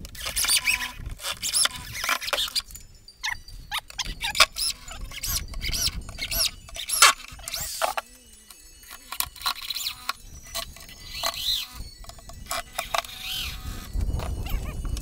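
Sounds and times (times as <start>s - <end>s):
power drill whining: 0.0s - 15.0s.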